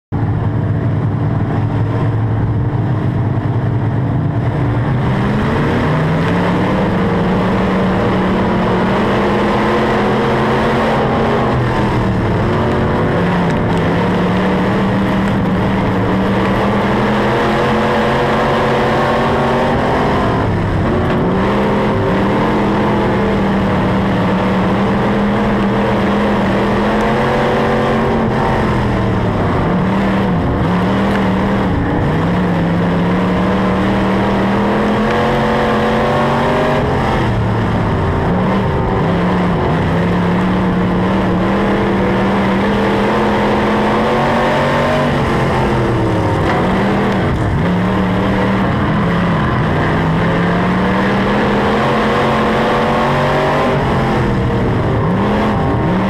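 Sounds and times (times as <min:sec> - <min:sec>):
race car engine revving: 0:00.1 - 0:56.0.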